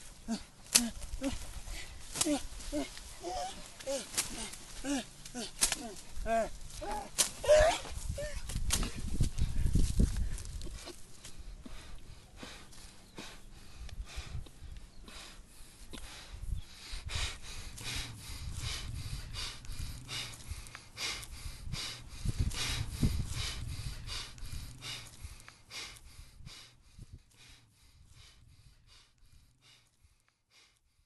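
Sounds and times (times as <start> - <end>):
person panting: 0.0 - 31.0.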